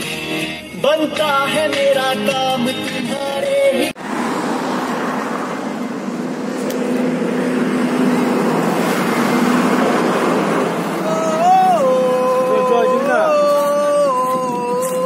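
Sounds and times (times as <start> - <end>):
vehicle road noise: 0.0 - 15.0.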